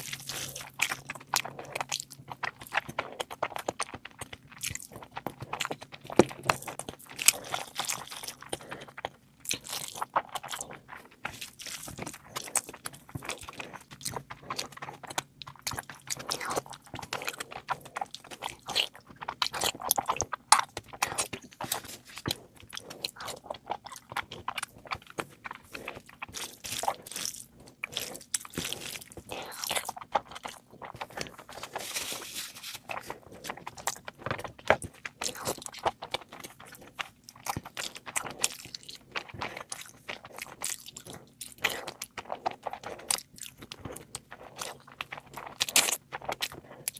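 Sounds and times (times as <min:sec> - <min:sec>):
person chewing and crunching: 0:00.0 - 0:46.9.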